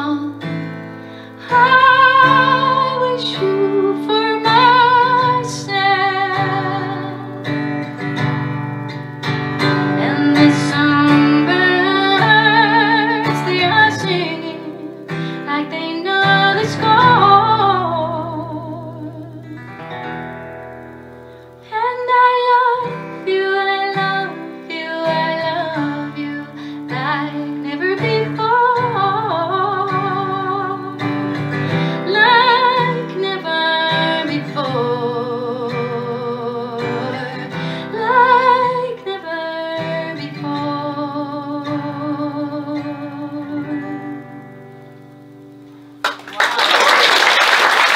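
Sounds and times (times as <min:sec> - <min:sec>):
woman singing with vibrato: 0:00.0 - 0:07.6, 0:09.6 - 0:19.7, 0:21.6 - 0:45.6
acoustic guitar: 0:00.0 - 0:47.9.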